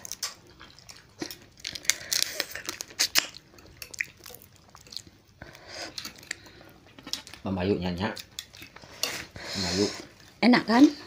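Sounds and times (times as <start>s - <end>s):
wet chewing: 0.0s - 10.4s.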